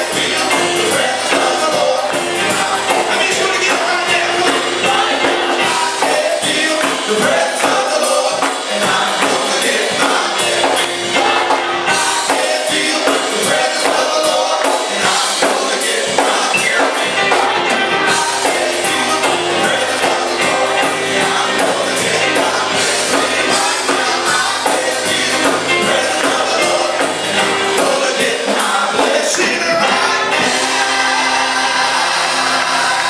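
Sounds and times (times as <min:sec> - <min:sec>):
high percussion strikes: 0:00.0 - 0:29.4
worship music with singing: 0:00.0 - 0:33.0.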